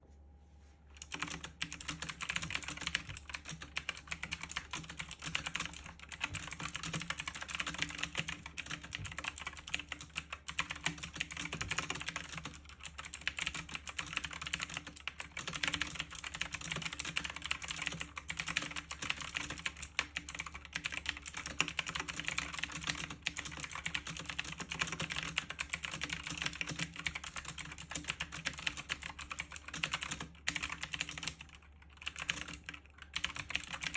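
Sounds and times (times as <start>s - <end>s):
fast typing on keyboard: 1.0s - 33.9s.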